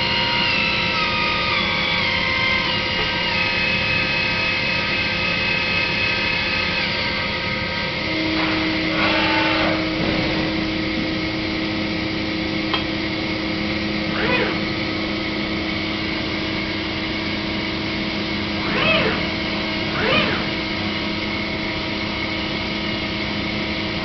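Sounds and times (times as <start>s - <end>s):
milling machine motor whine: 0.0s - 24.0s.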